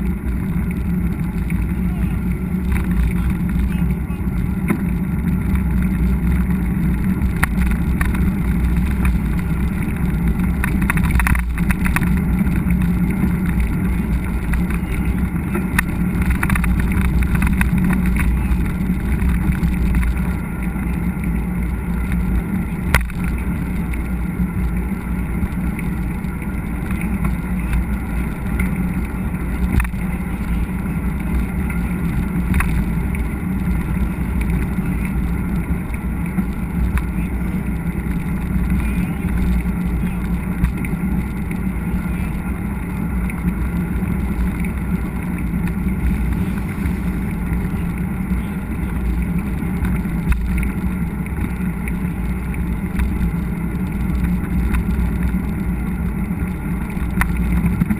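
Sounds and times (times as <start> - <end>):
bike tyre noise on trail: 0.0 - 57.9
wind on microphone: 0.0 - 57.9.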